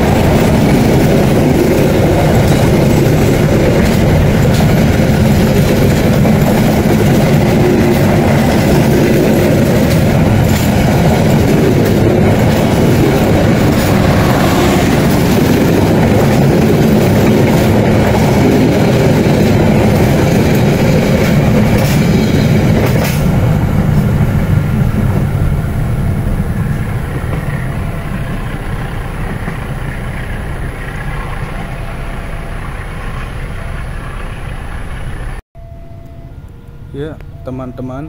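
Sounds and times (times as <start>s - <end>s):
train wheels rumbling on rails: 0.0s - 35.4s.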